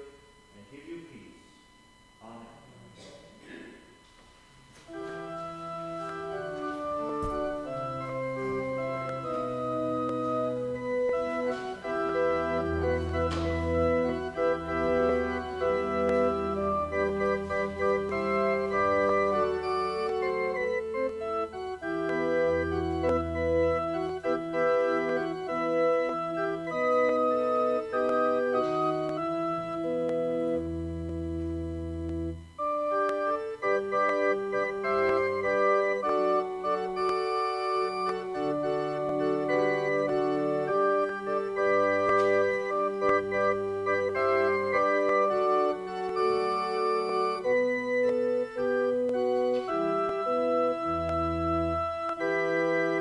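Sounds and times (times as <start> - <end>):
deep organ pedal notes: 0.0 - 53.0
organ chords: 0.0 - 53.0.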